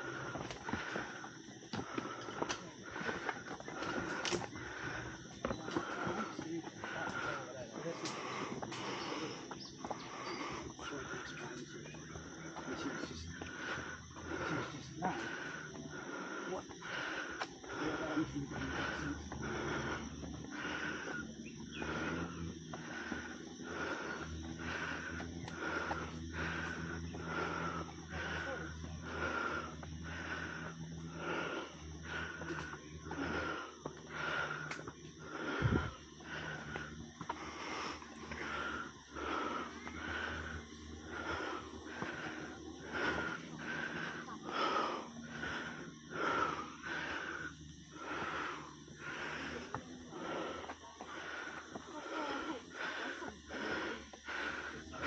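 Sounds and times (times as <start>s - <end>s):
person panting: 0.0s - 55.0s.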